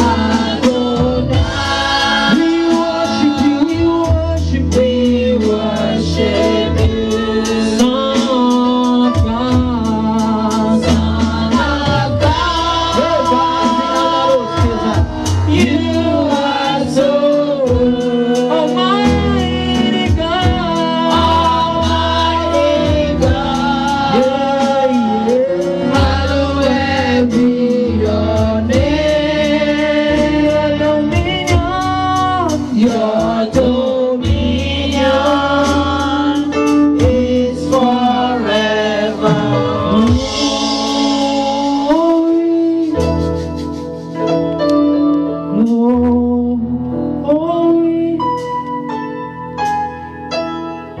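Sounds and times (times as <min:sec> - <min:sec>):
women singing gospel song: 0:00.0 - 0:42.7
instrumental accompaniment: 0:00.0 - 0:51.0.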